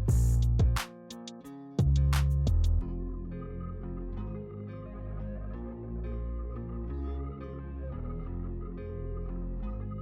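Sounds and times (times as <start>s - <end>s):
calm ambient instrumental music: 0.0s - 10.0s.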